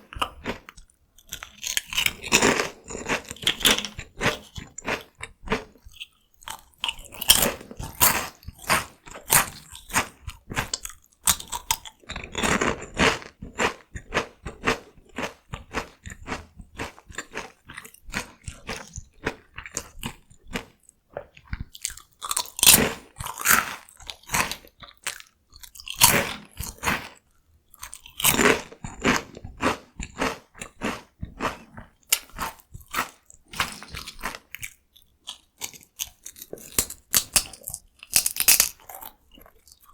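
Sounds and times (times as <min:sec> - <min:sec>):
crunching and chewing snack: 0:00.0 - 0:39.9.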